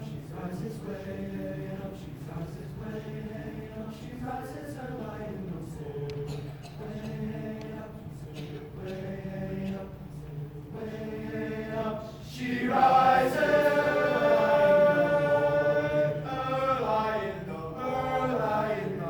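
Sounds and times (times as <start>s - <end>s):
a cappella group singing chords: 0.0s - 19.0s.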